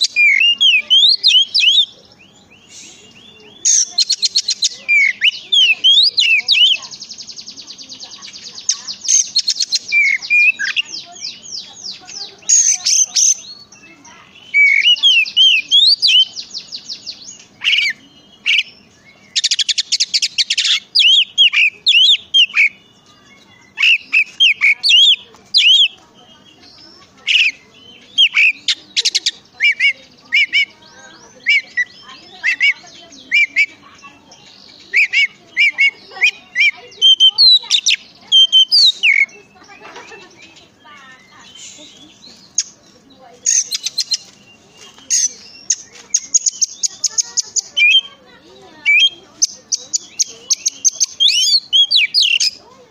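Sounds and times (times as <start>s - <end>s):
bird singing trills and whistles: 0.0s - 52.9s.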